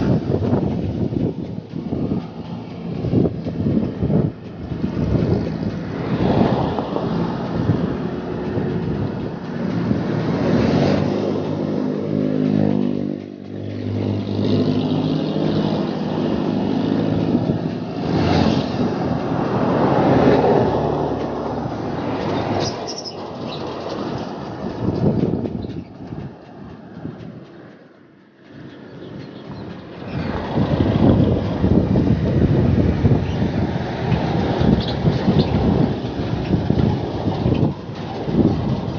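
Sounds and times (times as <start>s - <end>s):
traffic rumble: 0.0s - 38.9s
vehicle engine hum passing: 0.0s - 38.9s.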